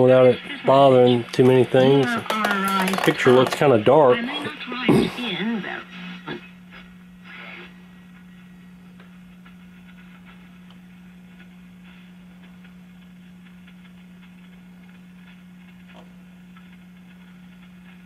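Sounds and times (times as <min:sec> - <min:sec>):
radio static hiss with crackles: 0:00.0 - 0:18.0
steady low hum: 0:00.0 - 0:18.0.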